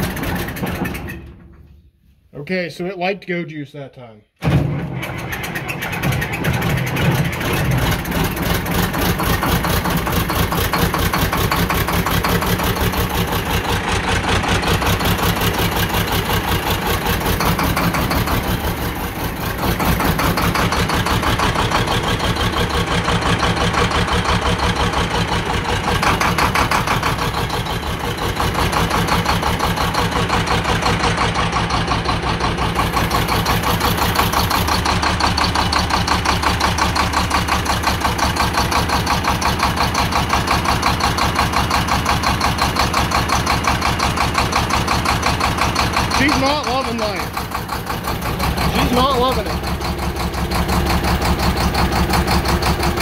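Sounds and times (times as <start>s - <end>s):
tractor diesel engine running: 0.0s - 2.9s, 4.4s - 53.0s.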